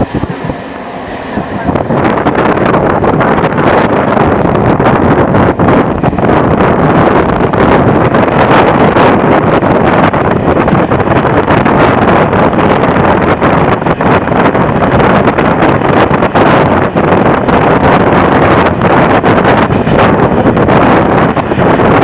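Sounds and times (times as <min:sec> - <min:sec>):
train running on track: 0:00.0 - 0:22.0
wind rushing over microphone: 0:00.0 - 0:22.0.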